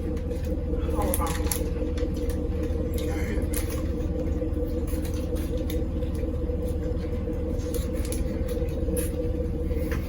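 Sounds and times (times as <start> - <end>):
low rumbling hum: 0.0 - 10.0.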